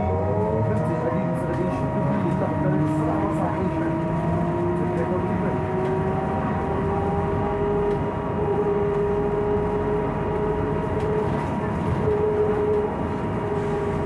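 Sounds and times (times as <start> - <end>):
road and body rumble: 0.0 - 14.0.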